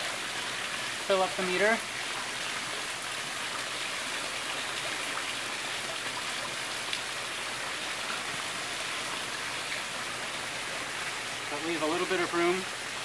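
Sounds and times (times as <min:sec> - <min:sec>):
hiss of moving water: 0:00.0 - 0:13.0.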